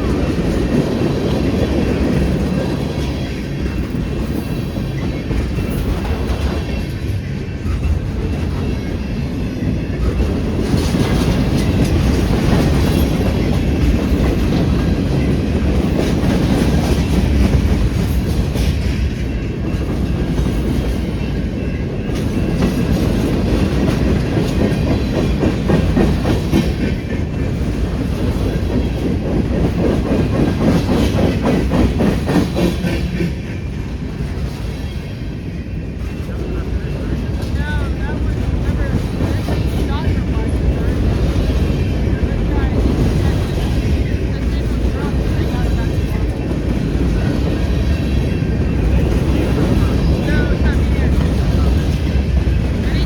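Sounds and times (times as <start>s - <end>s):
freight train rumble: 0.0s - 53.0s
wheels clacking over rail joints: 0.0s - 53.0s.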